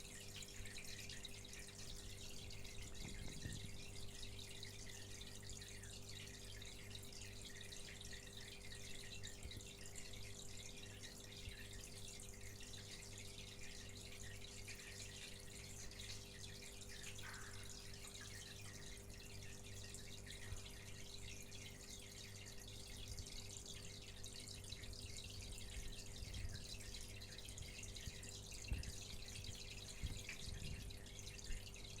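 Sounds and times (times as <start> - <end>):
aquarium filter hum: 0.0 - 32.0
water trickling and dripping: 0.0 - 32.0.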